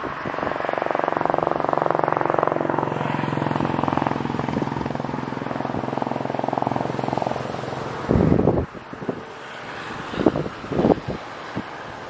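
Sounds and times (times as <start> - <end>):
engine drone pulsing: 0.0 - 11.2.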